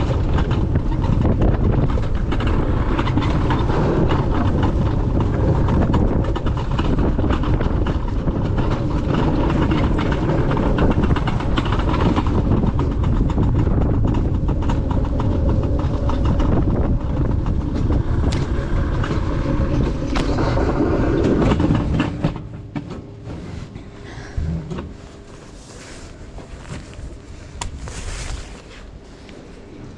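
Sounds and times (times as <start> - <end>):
sled rumbling on metal rail: 0.0 - 29.0.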